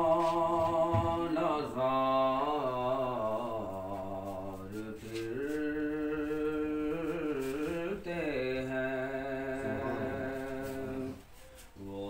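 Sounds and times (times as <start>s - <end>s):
person singing long wordless notes: 0.0s - 12.0s.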